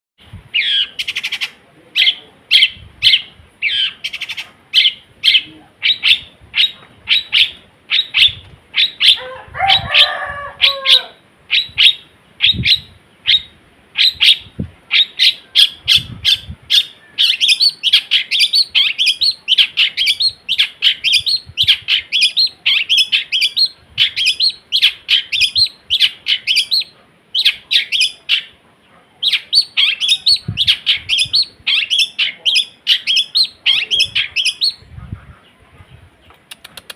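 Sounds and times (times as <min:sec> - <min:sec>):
bird chattering song: 0:00.5 - 0:28.6, 0:29.2 - 0:35.6
lower bird call: 0:00.5 - 0:28.6, 0:29.2 - 0:35.6.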